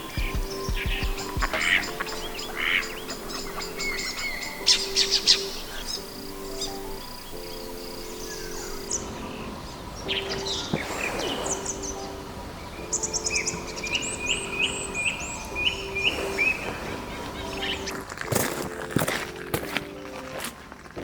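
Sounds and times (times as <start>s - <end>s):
small birds chirping: 0.0s - 20.8s
soft background music: 0.0s - 21.0s.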